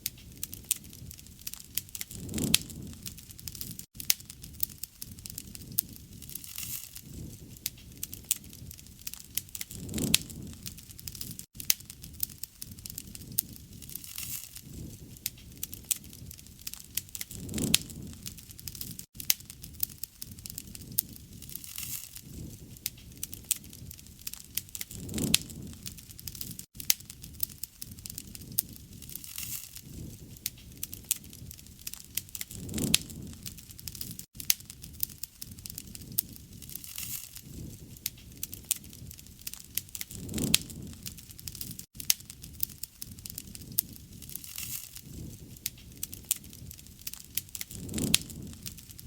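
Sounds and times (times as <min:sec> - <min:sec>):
campfire crackling and popping: 0:00.0 - 0:49.0
flames rushing: 0:00.0 - 0:49.0.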